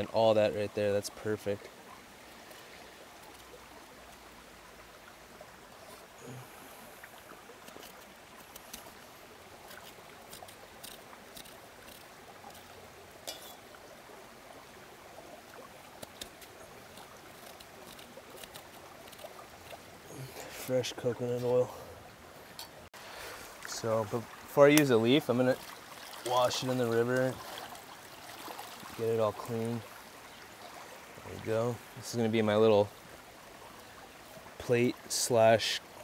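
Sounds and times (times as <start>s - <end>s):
stream rushing: 0.0s - 36.0s.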